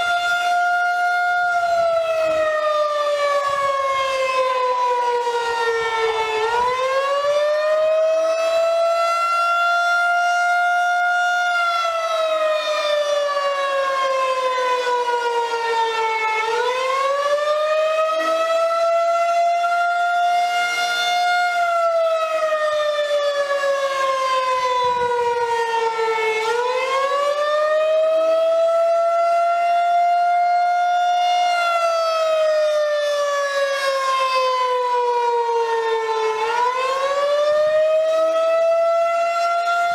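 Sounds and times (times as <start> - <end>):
wailing warning siren: 0.0 - 39.9.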